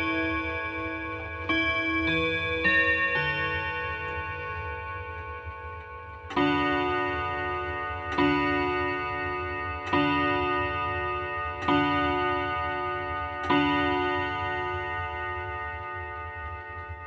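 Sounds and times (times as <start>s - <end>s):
clock chime tune: 0.0s - 17.0s
clock striking: 0.0s - 17.0s.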